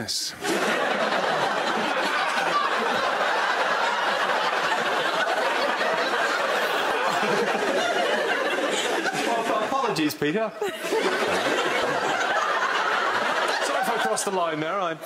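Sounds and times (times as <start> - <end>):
crowd laughter: 0.4 - 15.0.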